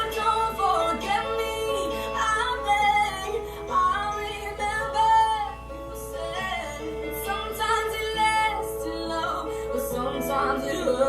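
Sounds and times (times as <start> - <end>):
instrumental backing: 0.0 - 11.0
woman singing pop song: 0.0 - 11.0.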